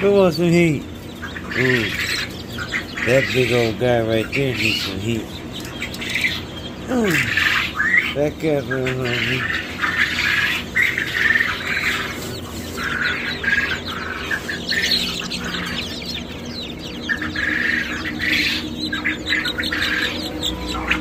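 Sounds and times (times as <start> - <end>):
poultry squawking and cheeping: 0.0 - 21.0
steady low hum: 0.0 - 21.0.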